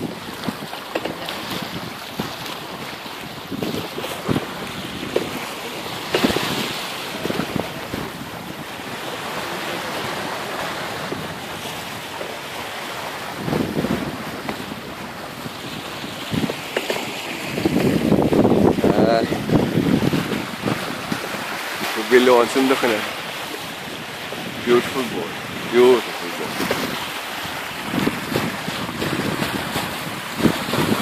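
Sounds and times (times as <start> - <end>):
water rushing past boat bow: 0.0 - 31.0
wind buffeting microphone: 0.0 - 31.0.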